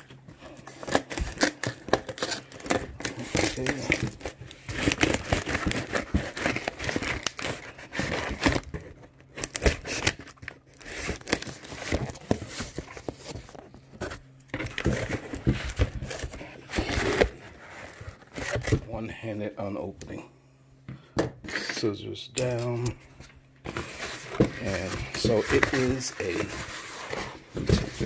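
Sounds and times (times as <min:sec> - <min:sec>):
cardboard tearing and rustling: 0:00.0 - 0:18.9, 0:23.7 - 0:28.0.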